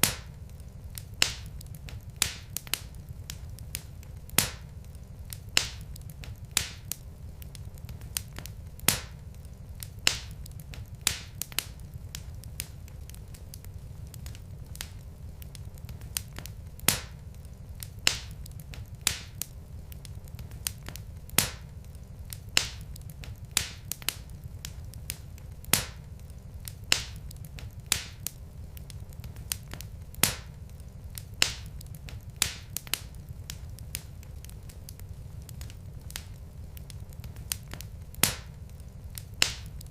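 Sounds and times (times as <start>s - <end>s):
log fire crackling: 0.0s - 39.9s
low fire rumble: 0.0s - 39.9s.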